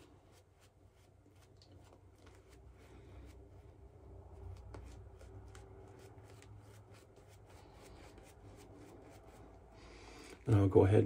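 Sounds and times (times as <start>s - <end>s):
shaving brush swishing: 0.0s - 9.6s.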